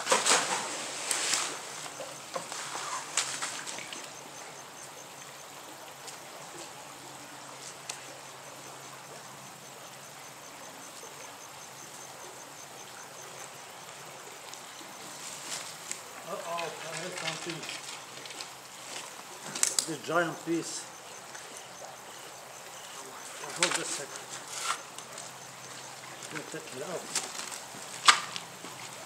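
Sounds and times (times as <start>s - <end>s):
creek water running over rocks: 0.0s - 29.0s.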